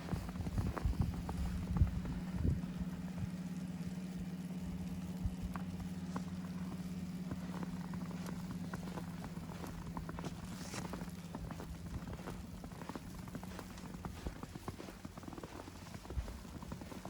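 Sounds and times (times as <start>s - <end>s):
footsteps in powdery snow: 0.0s - 17.0s
low mechanical hum: 0.0s - 17.0s.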